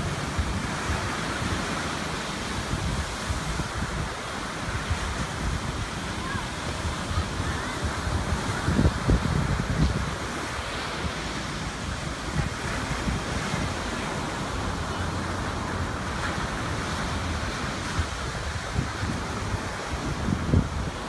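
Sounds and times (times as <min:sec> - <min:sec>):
sea waves breaking on shore: 0:00.0 - 0:21.0
wind buffeting microphone: 0:00.0 - 0:21.0.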